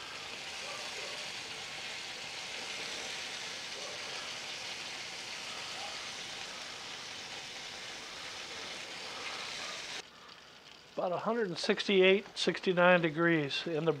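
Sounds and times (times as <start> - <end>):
fat sizzling on gas grill: 0.0 - 14.0.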